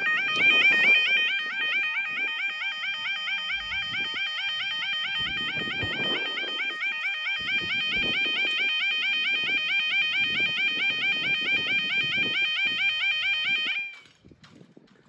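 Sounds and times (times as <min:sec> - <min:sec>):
level crossing alarm warbling: 0:00.0 - 0:14.1.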